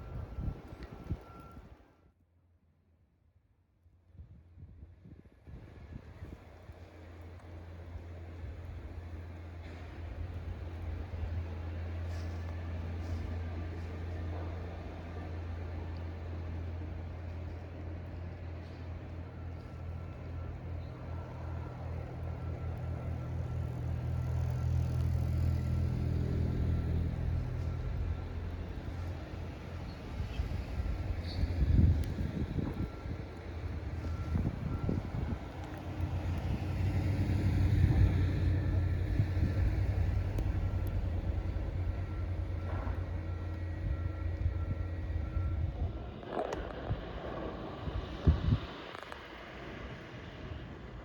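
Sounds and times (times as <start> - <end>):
car engine droning: 7.9 - 51.0.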